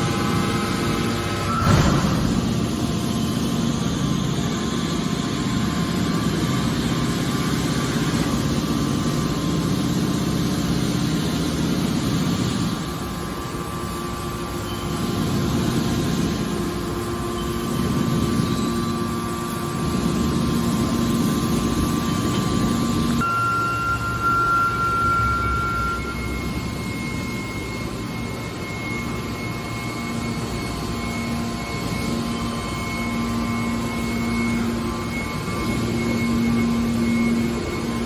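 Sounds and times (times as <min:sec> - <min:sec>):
machine hum of can baler: 0:00.0 - 0:38.0.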